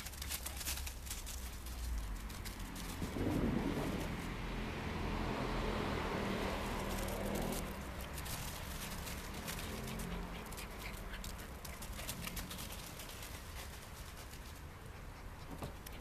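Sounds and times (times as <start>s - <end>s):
dry leaves crunching under paws: 0.0s - 14.6s.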